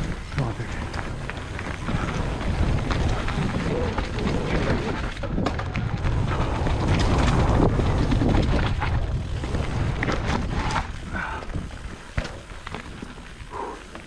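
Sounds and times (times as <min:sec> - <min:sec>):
wind buffeting the microphone: 0:00.0 - 0:13.9.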